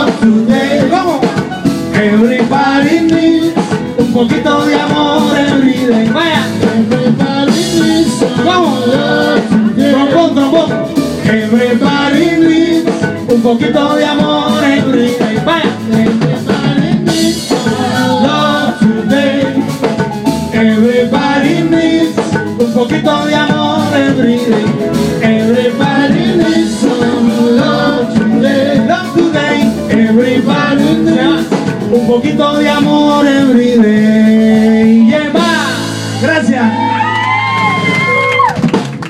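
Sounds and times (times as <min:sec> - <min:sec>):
drum kit: 0:00.0 - 0:39.0
latin percussion: 0:00.0 - 0:39.0.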